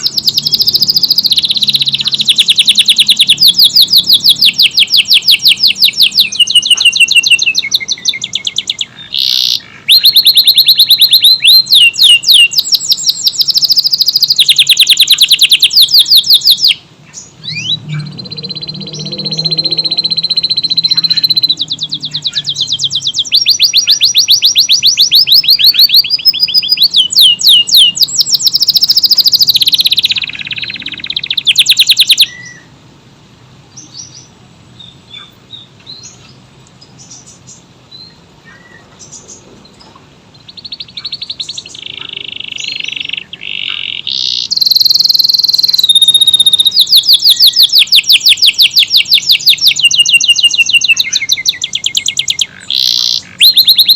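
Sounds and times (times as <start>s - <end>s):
canary trilling: 0.0s - 32.7s, 40.4s - 53.9s
faint bird chirps: 0.0s - 32.7s, 33.7s - 53.9s.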